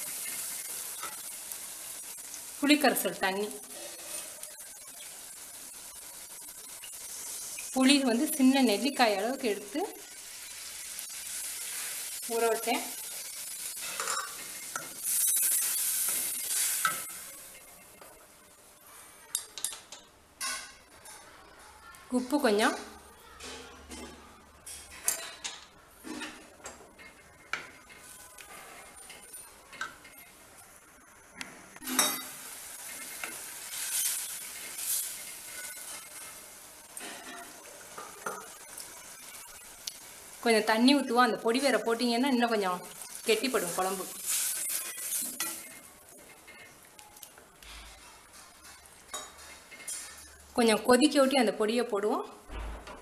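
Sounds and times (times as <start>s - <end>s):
liquid sizzling in hot oil: 0.0s - 19.8s, 25.2s - 51.3s.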